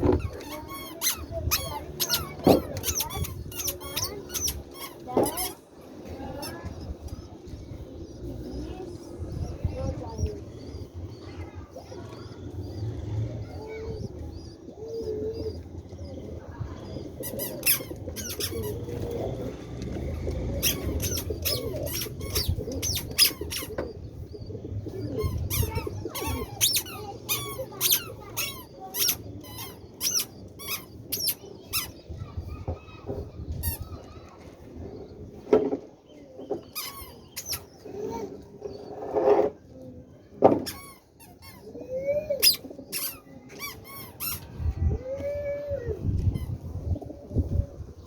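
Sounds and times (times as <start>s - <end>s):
pigeons cooing: 0.0s - 35.5s, 36.1s - 40.4s, 41.1s - 48.0s.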